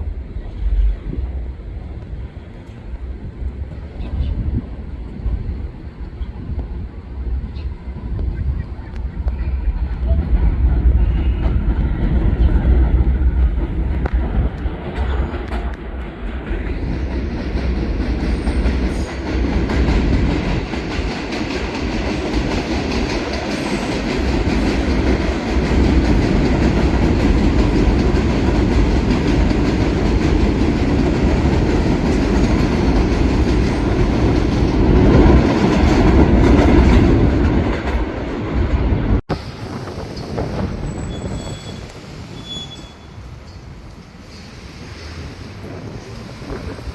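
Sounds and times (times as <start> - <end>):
subway train wheels rumbling: 0.0 - 46.9.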